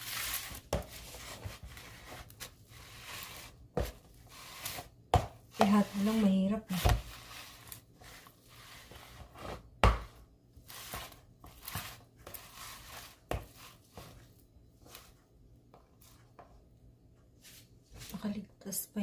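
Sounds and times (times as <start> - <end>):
yam being mashed in bowl: 0.0 - 16.7.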